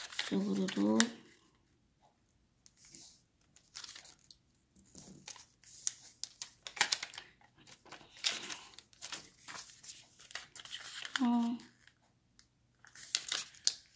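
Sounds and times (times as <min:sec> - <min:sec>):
paper rustling and crinkling: 0:00.0 - 0:01.2, 0:02.7 - 0:12.1, 0:12.8 - 0:13.9.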